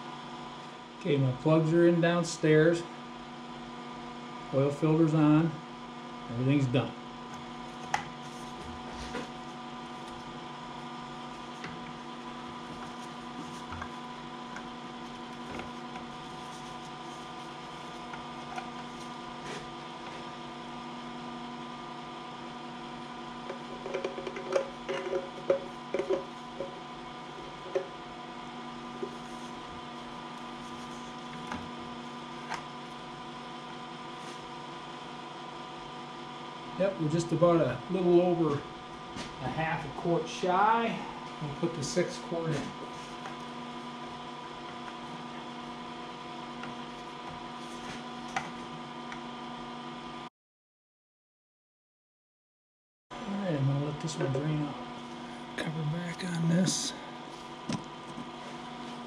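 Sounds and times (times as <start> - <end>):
electrical mains hum: 0.0 - 50.3, 53.1 - 59.0.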